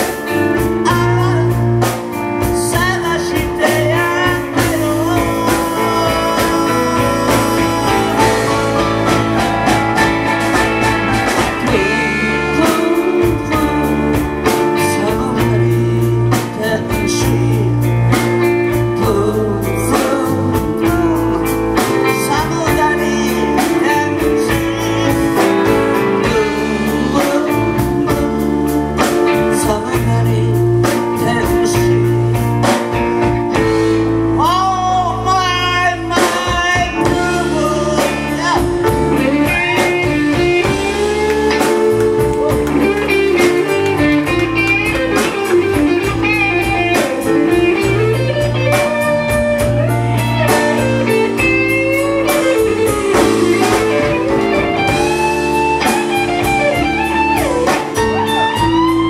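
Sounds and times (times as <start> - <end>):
man singing: 0.0 - 9.8, 11.3 - 32.4, 34.4 - 59.0
drums: 0.0 - 59.0
electric bass: 0.0 - 59.0
electric guitars: 0.0 - 59.0
keyboard: 0.0 - 59.0.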